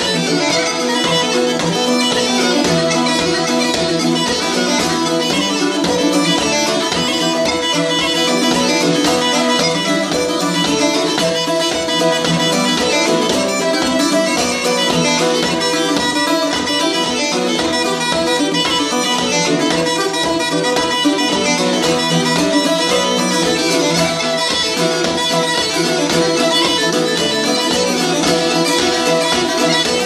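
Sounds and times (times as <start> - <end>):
bagpipes playing a reel: 0.0 - 30.0
bouzouki strummed: 0.0 - 30.0.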